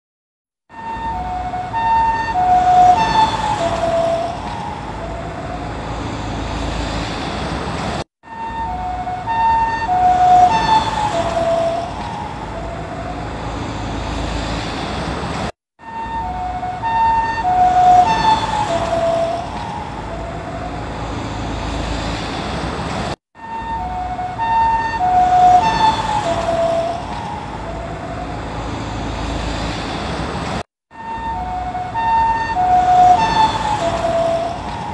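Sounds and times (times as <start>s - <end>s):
engine and road noise: 0.6s - 34.9s
ambulance siren passing: 0.7s - 7.4s, 8.2s - 14.9s, 15.8s - 22.3s, 23.4s - 29.8s, 30.9s - 34.9s.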